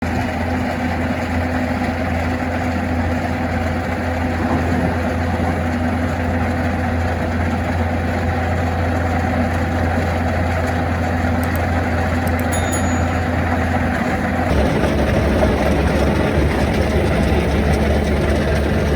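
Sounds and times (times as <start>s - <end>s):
skid steer engine humming: 0.0s - 18.9s.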